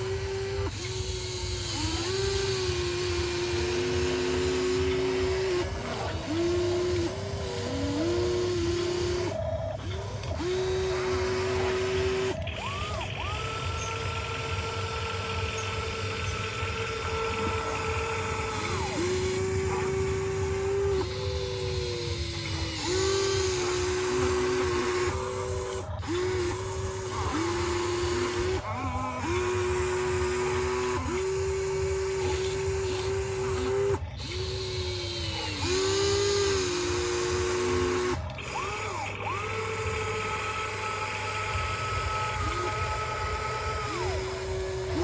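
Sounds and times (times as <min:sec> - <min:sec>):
small electric motors whining: 0:00.0 - 0:45.0.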